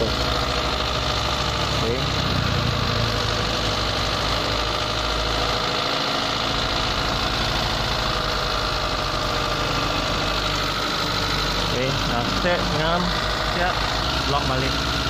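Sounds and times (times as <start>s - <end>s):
car engine idling unsteadily: 0.0s - 15.0s.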